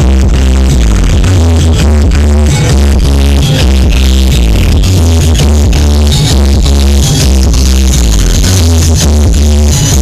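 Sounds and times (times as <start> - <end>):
heavy pounding bass: 0.0 - 10.0
loud techno music: 0.0 - 10.0.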